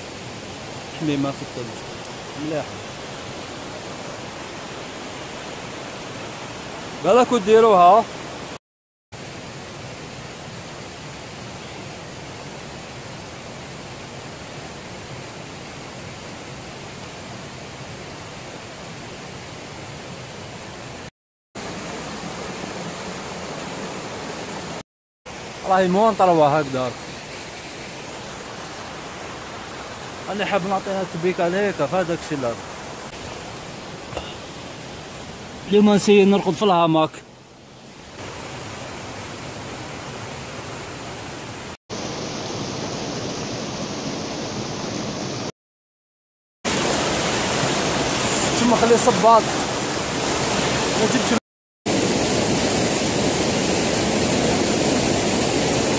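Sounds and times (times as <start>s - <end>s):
stream rushing: 0.0s - 45.5s, 46.7s - 55.9s.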